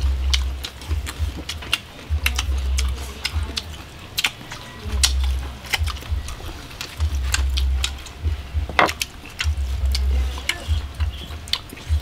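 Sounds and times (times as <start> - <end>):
dull low thumps: 0.0 - 3.8, 4.8 - 12.0
sharp clicks and crackles chewing: 0.0 - 12.0.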